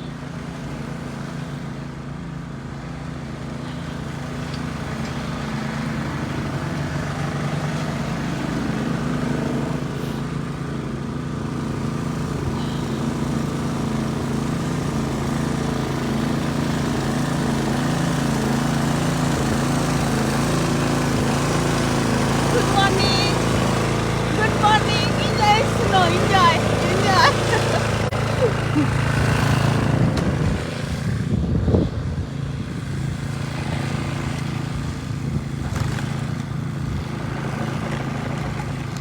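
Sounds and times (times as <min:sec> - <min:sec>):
motor engine running: 0:00.0 - 0:39.0.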